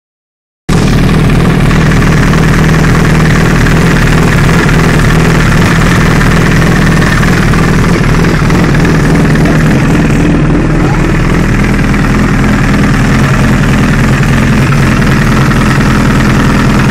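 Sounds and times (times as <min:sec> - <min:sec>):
motorcycle engine idling: 0:00.7 - 0:16.9.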